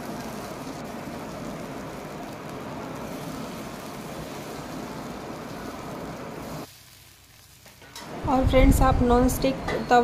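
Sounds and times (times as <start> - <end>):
batter sizzling in oil: 0.0 - 10.0.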